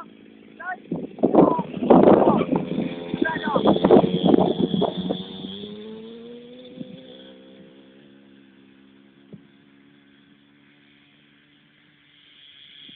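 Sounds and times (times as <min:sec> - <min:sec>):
small motorbike engine running: 0:00.0 - 0:12.9.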